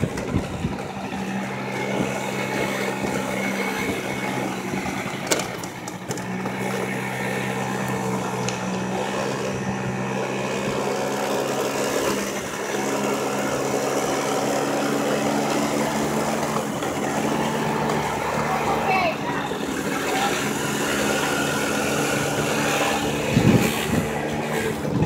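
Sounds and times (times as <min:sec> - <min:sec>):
road and wind noise: 0:00.0 - 0:25.0
scooter engine running: 0:00.0 - 0:25.0.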